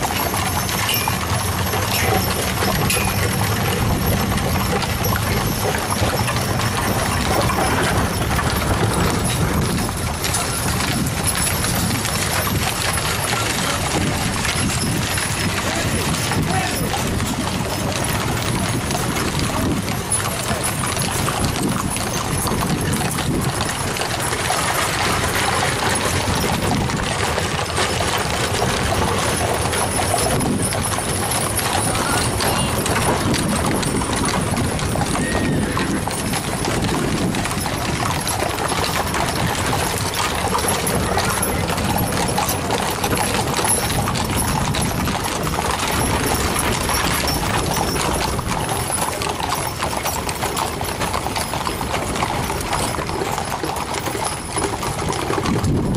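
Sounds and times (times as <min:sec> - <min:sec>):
horse hooves on asphalt: 0:00.0 - 0:55.9.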